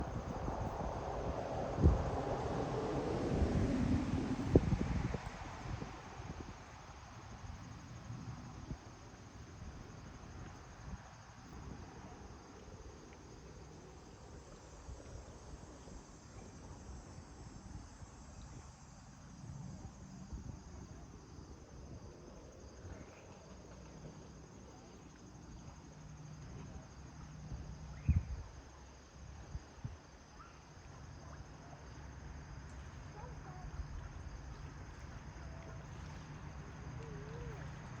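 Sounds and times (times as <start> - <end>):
insect chorus: 0.0 - 38.0.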